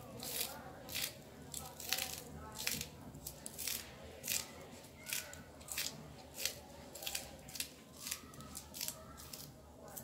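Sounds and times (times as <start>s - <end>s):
knife slicing green onion: 0.1s - 10.0s.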